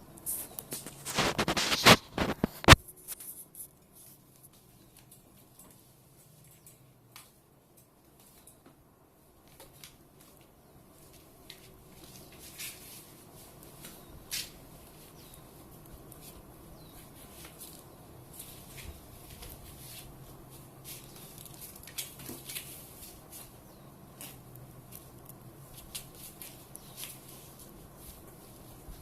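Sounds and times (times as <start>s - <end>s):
cats scuffling and rustling: 0.0s - 29.0s.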